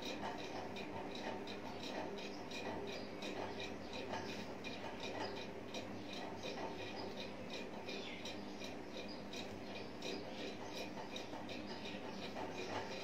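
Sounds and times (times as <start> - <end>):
faint even ticking: 0.0 - 13.0.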